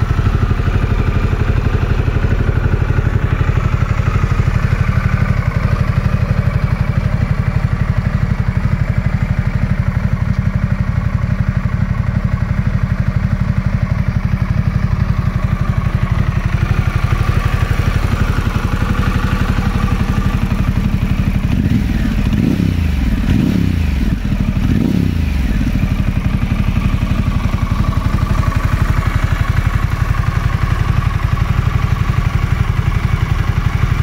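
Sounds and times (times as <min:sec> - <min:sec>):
motorcycle engine idling: 0:00.0 - 0:34.0
motorcycle engine revving: 0:00.0 - 0:34.0.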